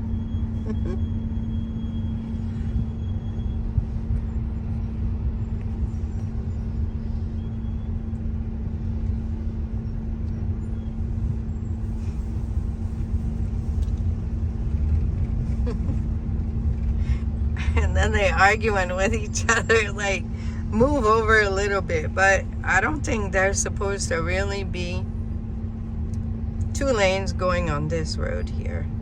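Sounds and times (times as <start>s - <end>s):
car cabin road and engine rumble: 0.0s - 29.0s
constant droning hum: 0.0s - 29.0s.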